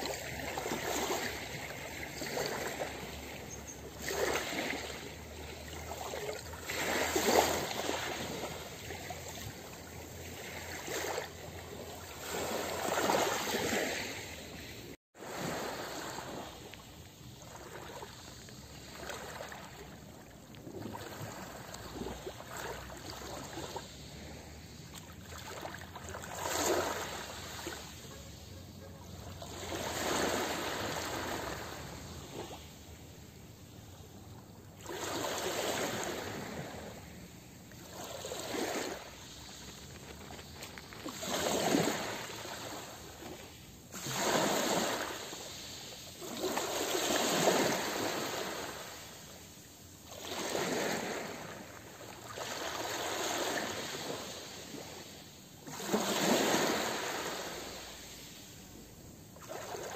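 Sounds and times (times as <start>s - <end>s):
waves hissing on beach: 0.0s - 59.9s.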